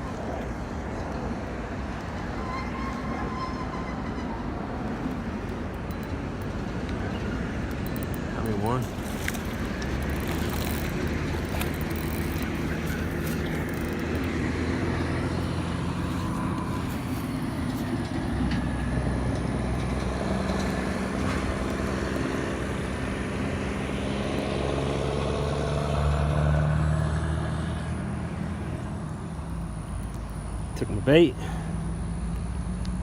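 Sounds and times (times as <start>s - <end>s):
engine humming: 4.7s - 33.0s.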